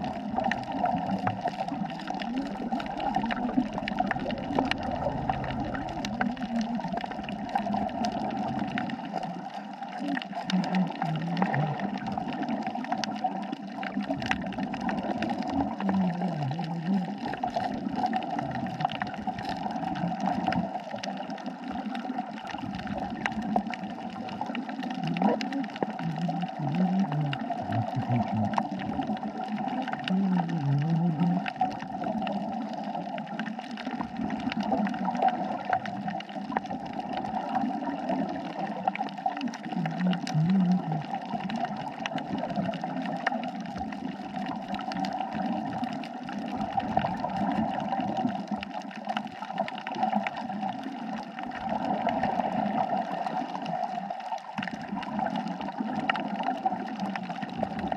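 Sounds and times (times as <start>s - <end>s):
low wavering gurgles: 0.0s - 57.9s
underwater crackling hiss: 0.0s - 57.9s.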